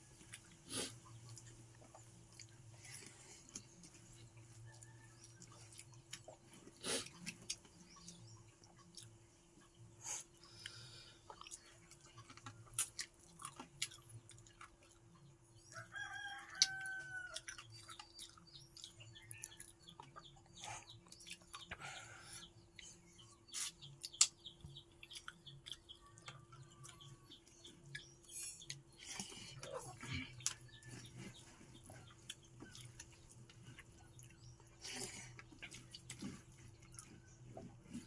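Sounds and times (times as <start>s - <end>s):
eating by hand clicks and smacks: 1.2s - 9.2s, 10.3s - 15.2s, 16.5s - 21.8s, 22.8s - 38.0s.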